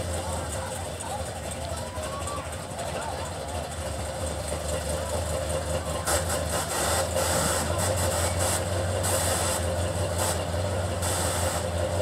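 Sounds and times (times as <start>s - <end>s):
car engine idling deep: 0.0s - 12.0s.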